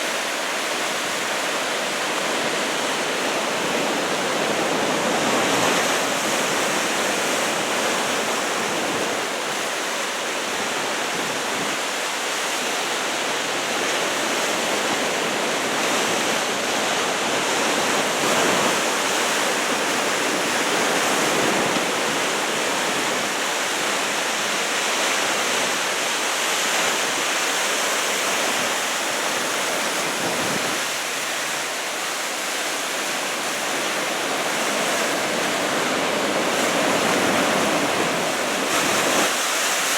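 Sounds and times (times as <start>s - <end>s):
heavy ocean surf breaking: 0.0s - 39.9s.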